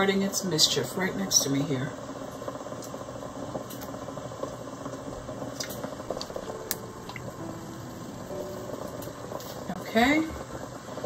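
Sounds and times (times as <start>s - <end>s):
water bubbling in a pot: 0.0s - 11.0s.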